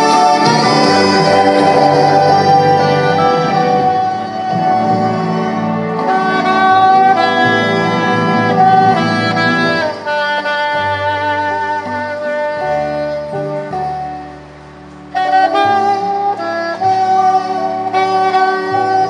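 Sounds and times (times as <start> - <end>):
backing accompaniment with bass: 0.0 - 19.0
saxophone melody: 0.0 - 19.0.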